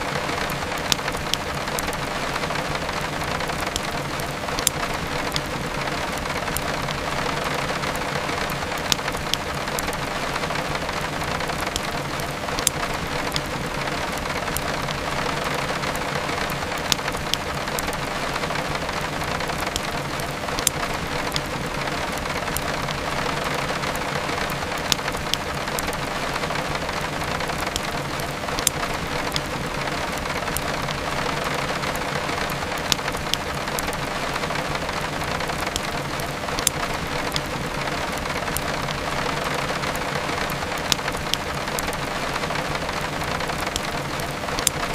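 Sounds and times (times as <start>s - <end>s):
heavy rain: 0.0s - 44.9s
wood fire crackling: 0.0s - 44.9s.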